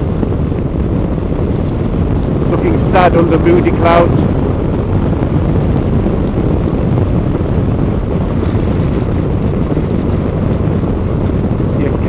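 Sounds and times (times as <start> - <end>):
motorcycle engine drone: 0.0 - 12.0
wind rushing over microphone: 0.0 - 12.0.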